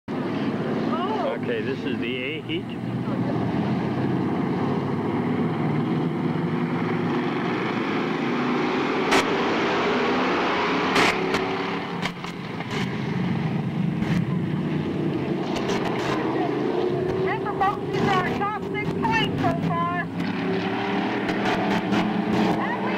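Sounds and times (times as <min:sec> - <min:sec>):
stock car engines racing: 0:00.1 - 0:22.9.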